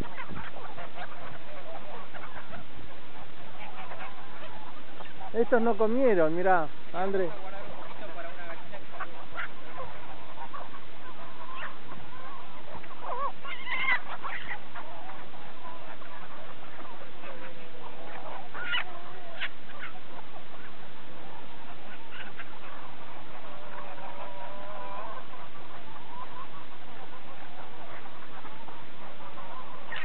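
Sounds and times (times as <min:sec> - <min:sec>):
background hiss: 0:00.0 - 0:30.0
chickens calling: 0:00.0 - 0:30.0
waterfowl calling: 0:00.0 - 0:30.0.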